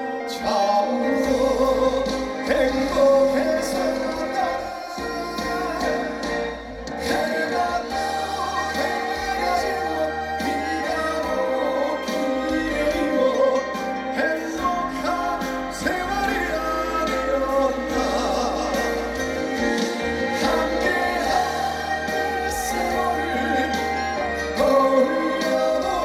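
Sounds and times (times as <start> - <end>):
amplified band accompaniment: 0.0 - 26.0
man singing into a microphone: 0.0 - 26.0.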